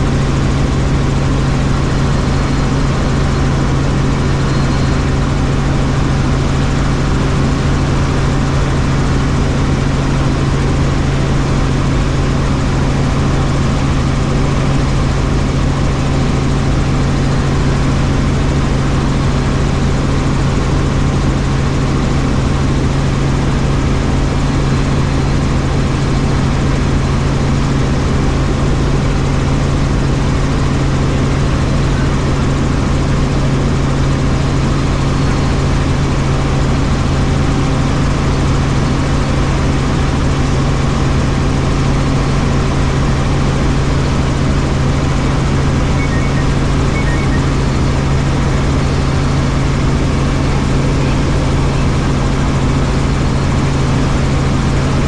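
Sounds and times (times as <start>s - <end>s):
helicopter rotors droning: 0.0s - 55.0s.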